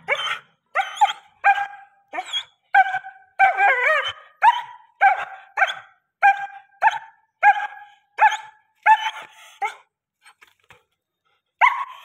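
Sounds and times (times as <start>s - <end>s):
dog barking: 0.0s - 9.9s, 11.6s - 12.0s.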